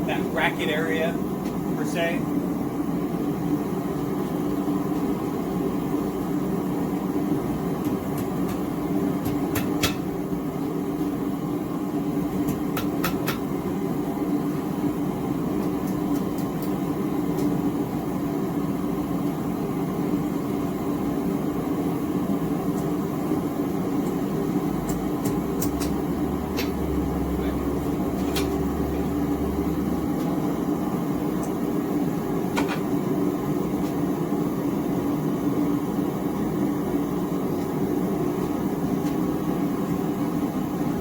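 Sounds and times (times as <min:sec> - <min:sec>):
gas forge burner drone: 0:00.0 - 0:41.0.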